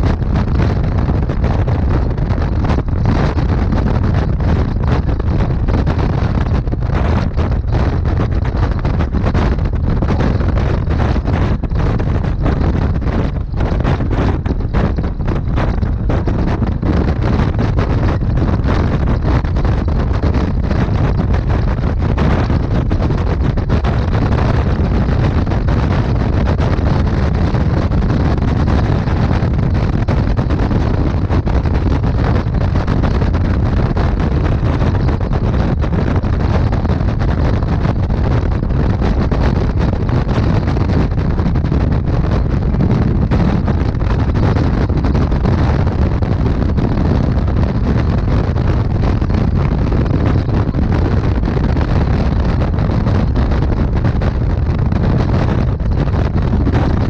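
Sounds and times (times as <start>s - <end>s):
motorcycle engine and road noise: 0.0s - 57.0s
wind rushing over microphone: 0.0s - 57.0s.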